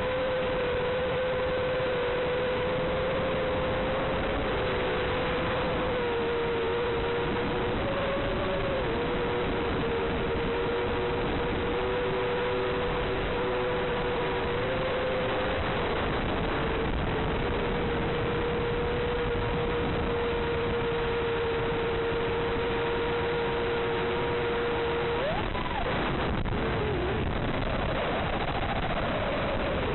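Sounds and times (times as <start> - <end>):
constant whine: 0.0 - 29.9.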